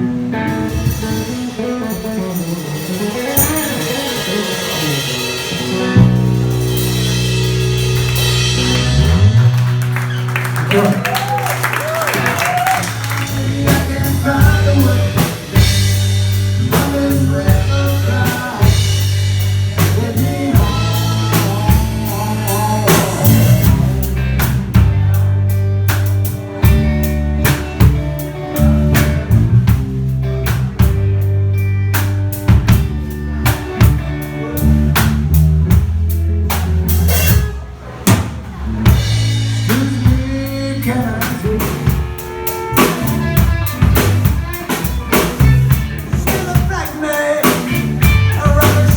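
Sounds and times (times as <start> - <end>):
drum kit beat: 0.0 - 48.9
bass line: 3.2 - 48.9.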